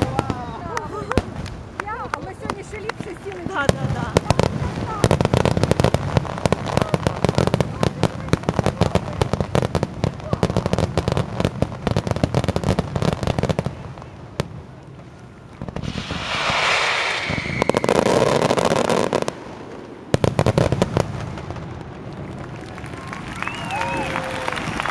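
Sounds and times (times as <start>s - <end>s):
fireworks hissing rush: 0.0s - 21.8s
fireworks crackling bangs: 0.0s - 24.9s.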